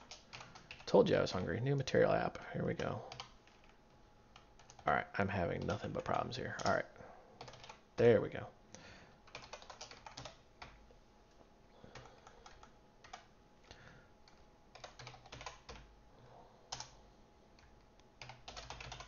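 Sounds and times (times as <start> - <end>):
faint keyboard typing: 0.0 - 8.2, 9.2 - 15.9, 16.7 - 17.0, 17.6 - 19.0.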